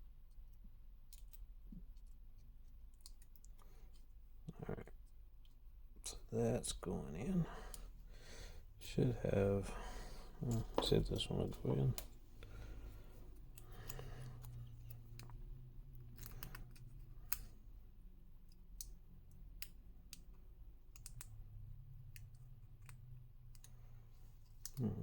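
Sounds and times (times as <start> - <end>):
steady low hum: 3.7 - 25.0.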